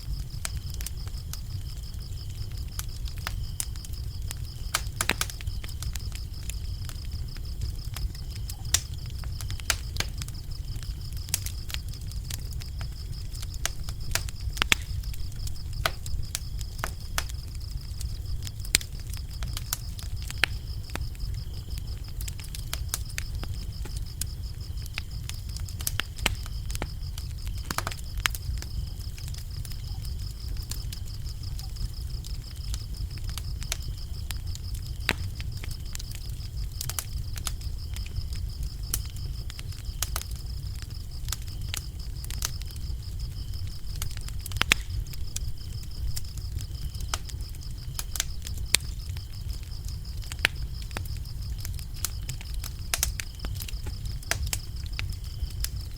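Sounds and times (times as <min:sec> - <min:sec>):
crickets trilling: 0:00.0 - 0:55.9
fire crackling and popping: 0:00.0 - 0:55.9.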